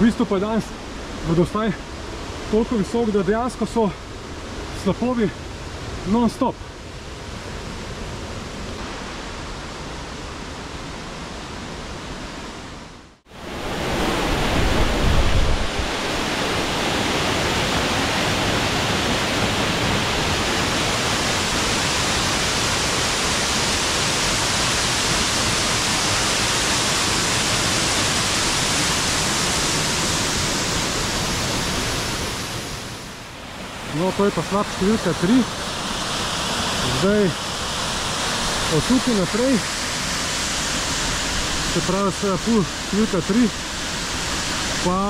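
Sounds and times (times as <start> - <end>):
rushing white water: 0.0 - 45.0.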